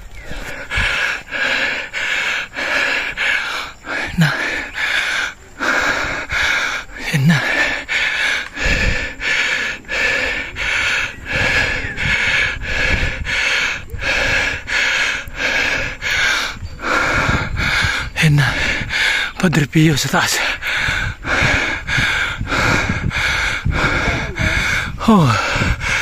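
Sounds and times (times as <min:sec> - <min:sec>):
person breathing hard: 0:00.0 - 0:26.0.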